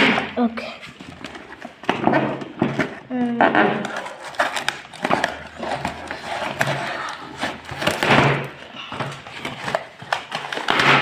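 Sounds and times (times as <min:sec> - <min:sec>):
packaging rustling and crinkling: 0:00.6 - 0:11.0.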